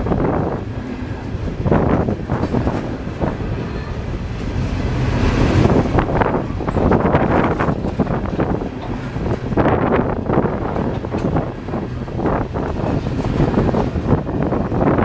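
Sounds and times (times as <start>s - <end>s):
freight train rumbling past: 0.0s - 15.0s
wind buffeting microphone: 0.0s - 15.0s.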